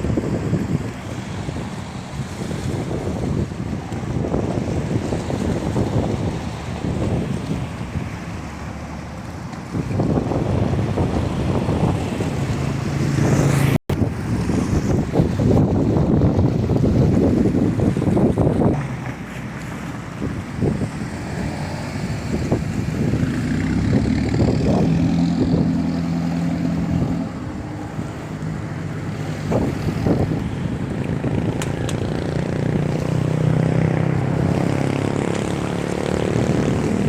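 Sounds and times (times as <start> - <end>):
engine droning: 0.7 - 37.0.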